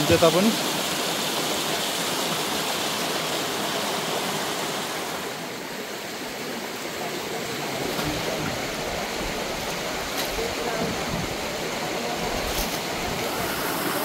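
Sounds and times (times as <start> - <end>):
stream water rushing over stones: 0.0 - 14.0.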